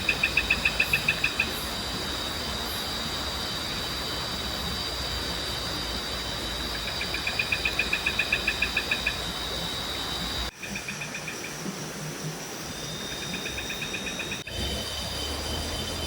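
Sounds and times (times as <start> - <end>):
insects high-pitched drone: 0.0 - 16.0
rhythmic insect chirping: 0.0 - 16.0.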